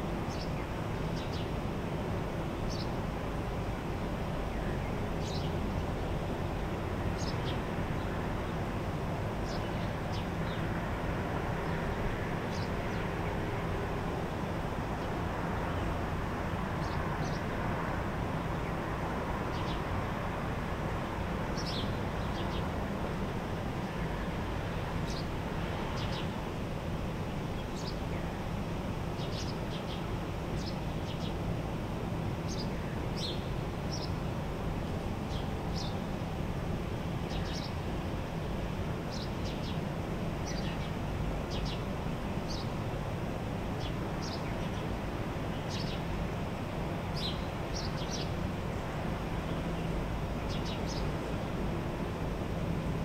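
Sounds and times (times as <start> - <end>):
ventilation hum and hiss: 0.0 - 53.0.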